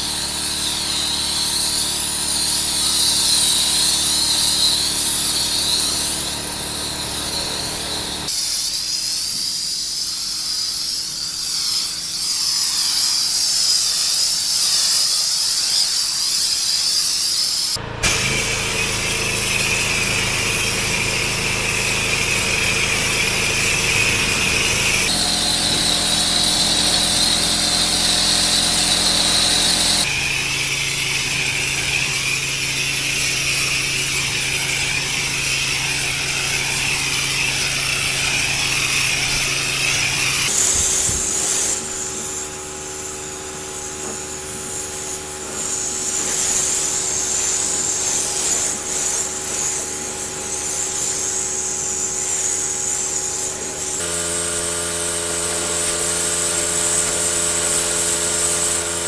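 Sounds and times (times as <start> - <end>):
pressure washer drone: 0.0 - 13.2, 14.7 - 59.0
pressure washer water jet hiss: 0.0 - 59.0.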